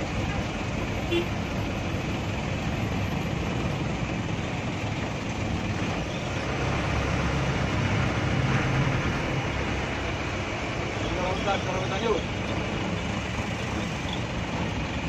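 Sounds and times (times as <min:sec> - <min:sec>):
bus diesel engine running: 0:00.0 - 0:15.0
road and traffic noise: 0:00.0 - 0:15.0.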